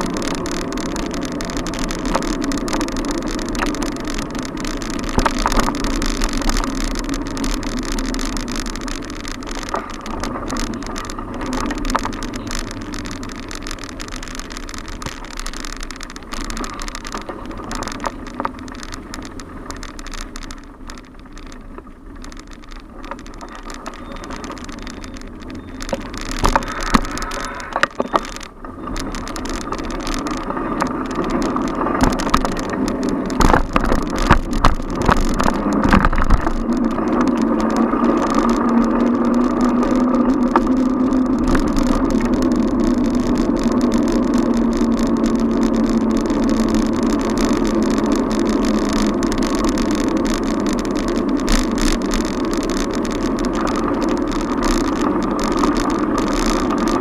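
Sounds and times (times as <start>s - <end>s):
bicycle knocks and rattles: 0.0s - 57.0s
engine hum: 0.0s - 57.0s
steady rush of noise: 0.0s - 57.0s
street traffic: 0.0s - 57.0s.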